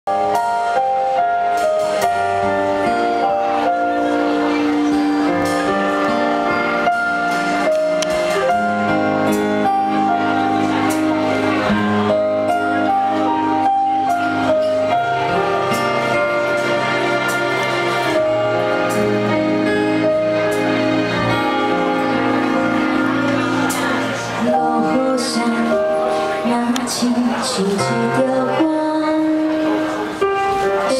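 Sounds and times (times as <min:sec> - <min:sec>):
live band instrumental: 0:00.1 - 0:30.9.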